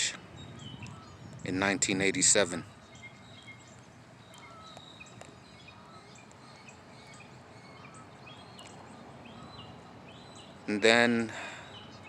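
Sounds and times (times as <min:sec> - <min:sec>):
faint bird chirps: 0:00.0 - 0:12.0
low outdoor background hum: 0:00.0 - 0:12.0.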